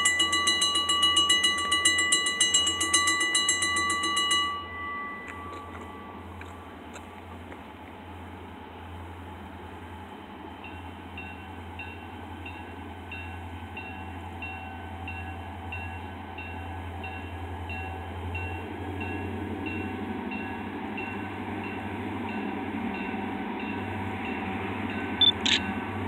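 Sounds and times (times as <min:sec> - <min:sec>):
railroad crossing bell dinging: 0:00.0 - 0:07.0, 0:10.5 - 0:26.0
train locomotive rumble: 0:00.0 - 0:26.0.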